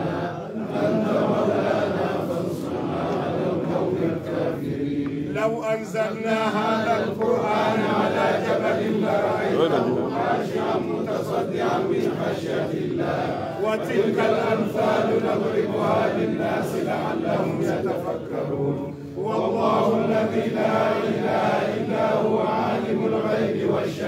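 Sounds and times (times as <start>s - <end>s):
men chanting together: 0.0s - 24.0s.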